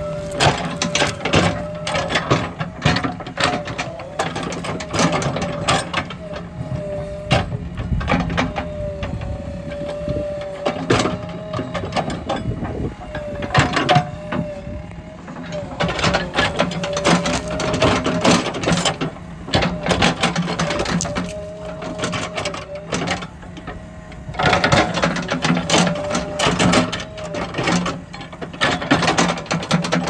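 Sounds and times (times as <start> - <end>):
backhoe engine whining: 0.0 - 30.0
metal clanks and knocks: 0.3 - 30.0.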